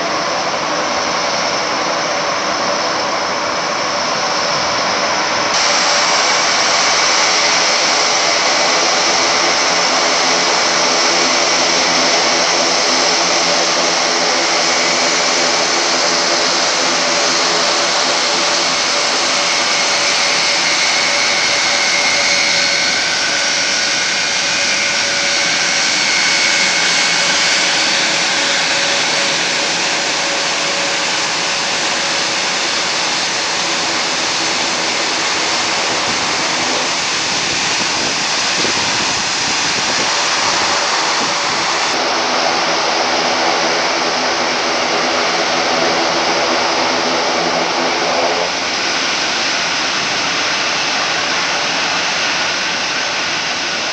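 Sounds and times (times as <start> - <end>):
propellers droning: 0.0 - 53.9
turboprop engines whining: 0.0 - 53.9.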